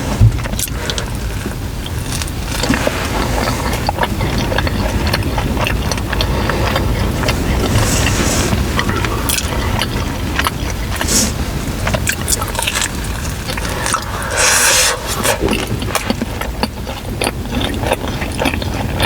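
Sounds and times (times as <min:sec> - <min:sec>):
biting and chewing food: 0:00.0 - 0:19.0
steady low rumble: 0:00.0 - 0:19.0.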